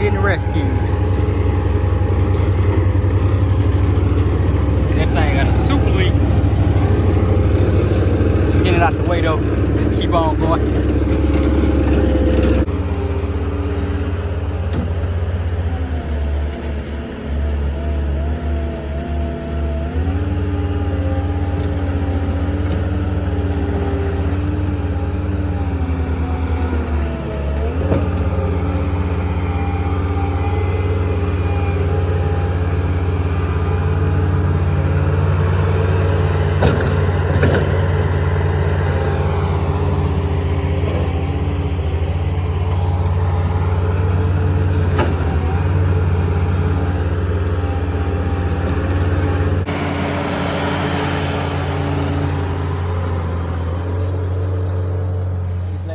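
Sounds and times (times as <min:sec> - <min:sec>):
diesel engine working: 0:00.0 - 0:55.9.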